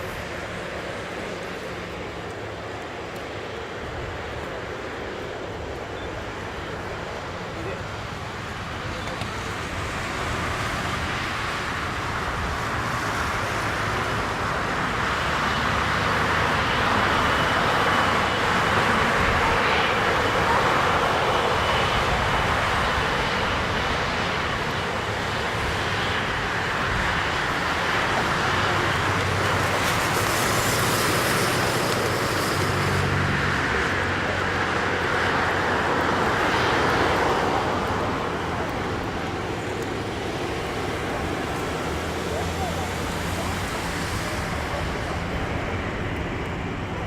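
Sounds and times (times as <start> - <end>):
jet engines rushing: 0.0 - 47.0.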